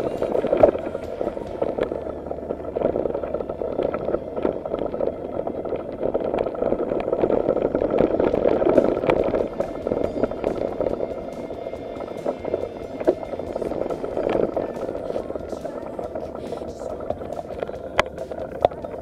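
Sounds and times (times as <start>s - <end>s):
bike rattling and knocking: 0.0s - 19.0s.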